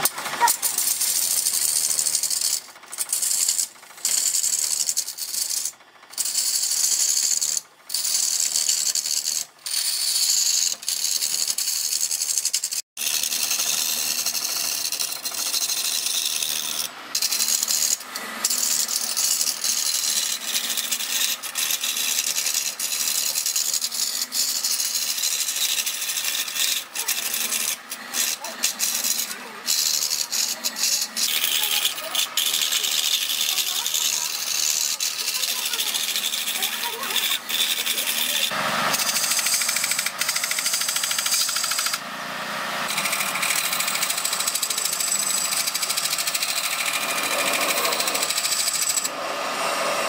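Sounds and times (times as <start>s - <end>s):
lathe gouge cutting wood: 0.0s - 50.0s.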